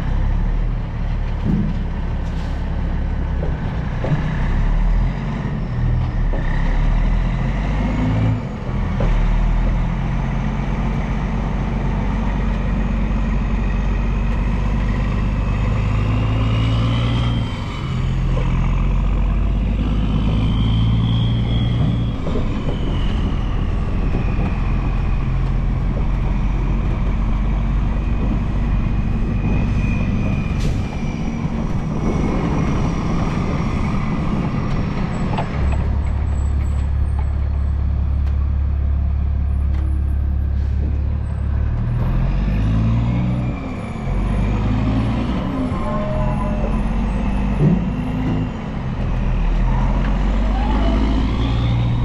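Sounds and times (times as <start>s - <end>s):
road noise: 0.0s - 52.0s
truck diesel engine running: 0.0s - 52.0s.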